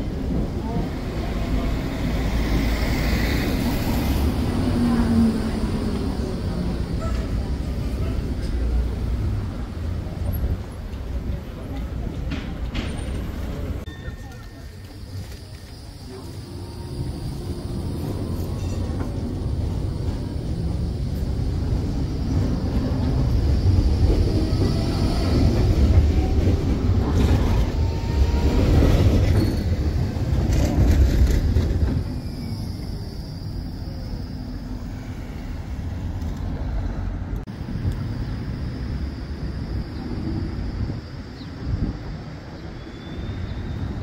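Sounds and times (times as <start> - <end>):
tram rumbling on rails: 0.0 - 44.0.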